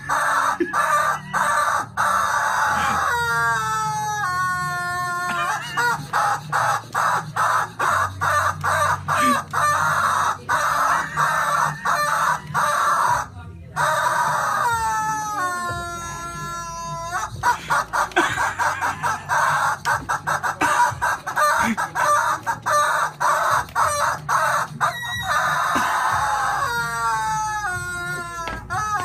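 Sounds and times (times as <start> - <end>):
chicken clucking rapidly: 0.0 - 29.0
chicken crowing: 0.0 - 29.0.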